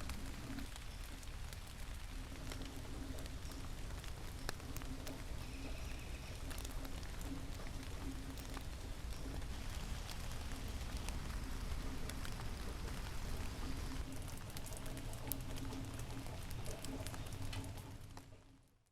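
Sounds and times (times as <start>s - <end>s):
rain hissing: 0.0s - 18.4s
raindrops ticking sharply: 0.0s - 18.7s.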